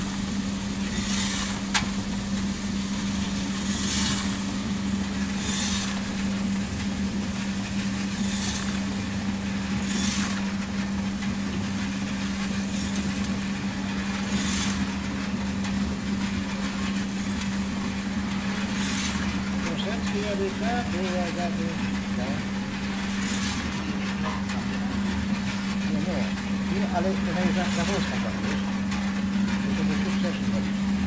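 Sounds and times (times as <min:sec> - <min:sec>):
motor and fan hum: 0:00.0 - 0:31.0.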